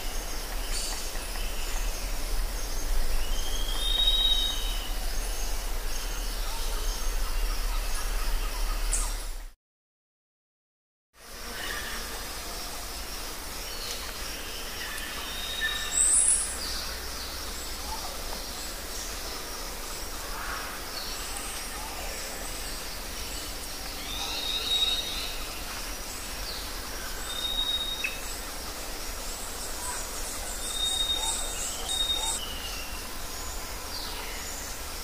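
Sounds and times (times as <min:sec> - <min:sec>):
steady outdoor hiss: 0:00.0 - 0:09.6, 0:11.2 - 0:35.0.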